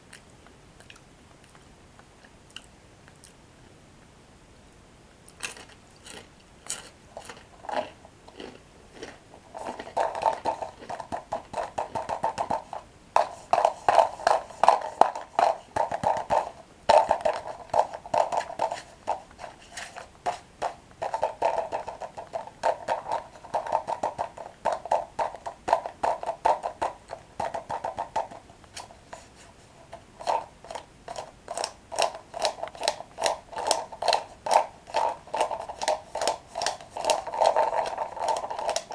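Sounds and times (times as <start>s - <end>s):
crunching and chewing breadsticks: 0.0s - 3.4s, 5.2s - 38.9s.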